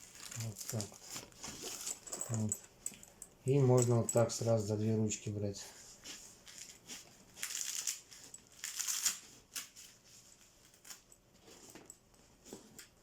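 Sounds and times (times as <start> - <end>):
fabric bag rustling and creaking: 0.0 - 4.7, 5.9 - 13.0.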